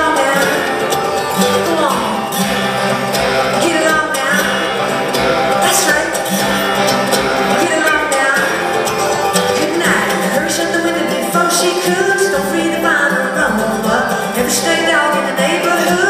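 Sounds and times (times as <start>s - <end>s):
bluegrass band with banjo and guitar: 0.0s - 16.0s.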